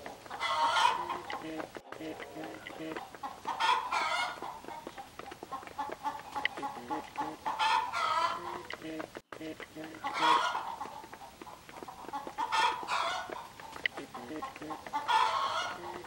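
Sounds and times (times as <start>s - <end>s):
beaks pecking grain on concrete: 0.0s - 16.0s
hens and rooster clucking: 0.0s - 16.0s.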